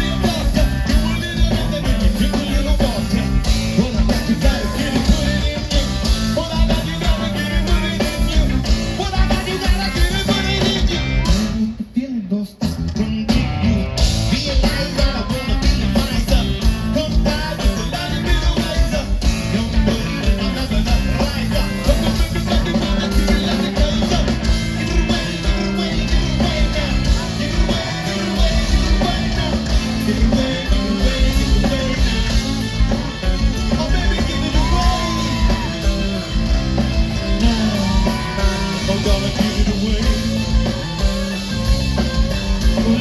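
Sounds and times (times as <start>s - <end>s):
drum beat: 0.0s - 11.7s, 14.0s - 43.0s
bass: 0.0s - 43.0s
electric guitar: 0.0s - 43.0s
person singing: 0.0s - 43.0s.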